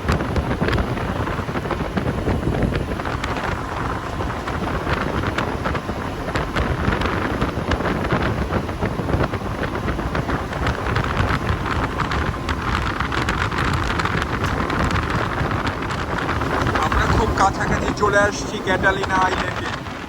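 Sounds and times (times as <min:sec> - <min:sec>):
ferry engine low rumble: 0:00.0 - 0:20.0
wind buffeting microphone: 0:00.0 - 0:20.0.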